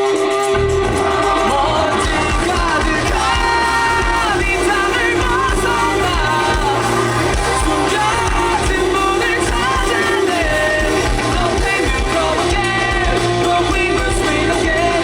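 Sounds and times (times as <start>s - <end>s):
person singing lead vocal: 0.0s - 15.0s
rock band playing: 0.0s - 15.0s.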